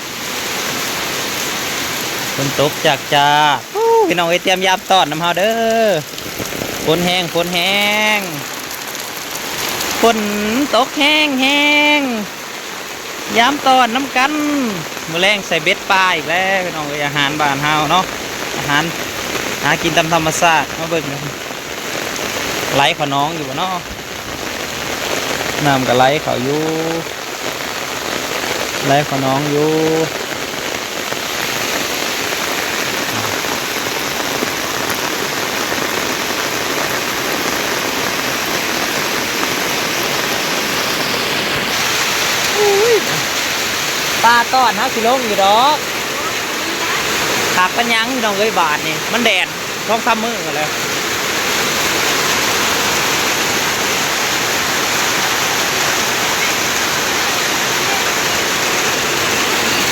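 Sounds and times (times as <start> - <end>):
rainwater flowing: 0.0 - 59.9.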